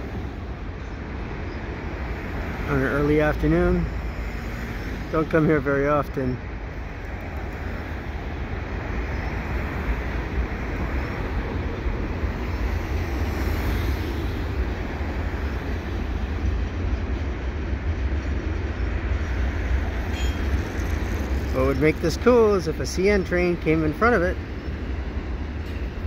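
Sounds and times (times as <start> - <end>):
train wheels rolling on rail: 0.0 - 26.0.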